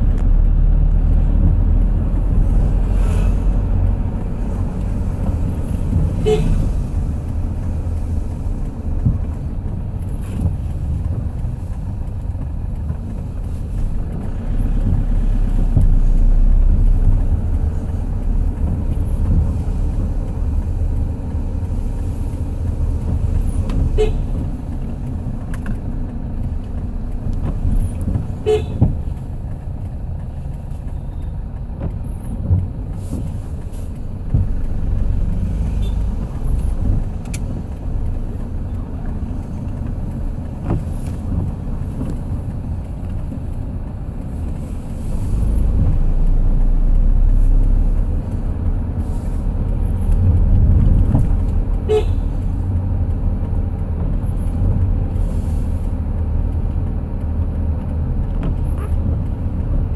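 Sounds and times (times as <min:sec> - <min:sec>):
vehicle rumble: 0:00.0 - 0:59.9.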